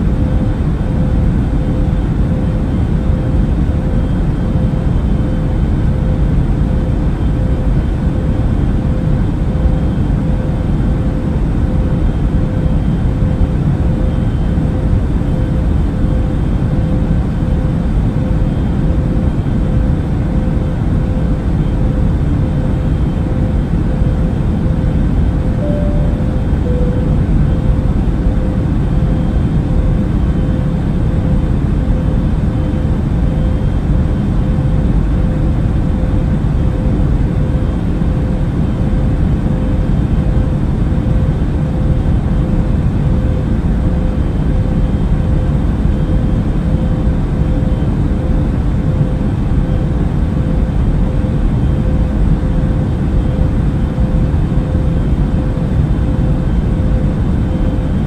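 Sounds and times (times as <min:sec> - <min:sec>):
airliner cabin engine rumble: 0:00.0 - 0:58.0
faint constant hum tone: 0:00.0 - 0:58.0.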